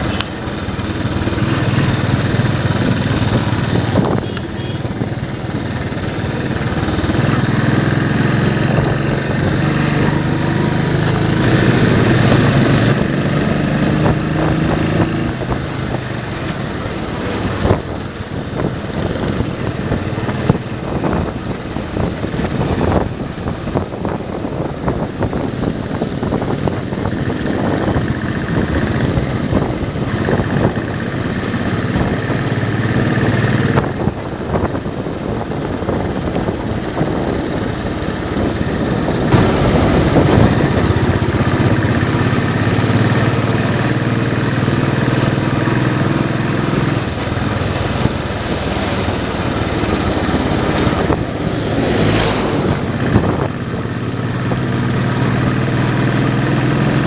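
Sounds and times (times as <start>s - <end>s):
motorcycle engine running: 0.0s - 57.0s
wind rushing on microphone: 0.0s - 57.0s.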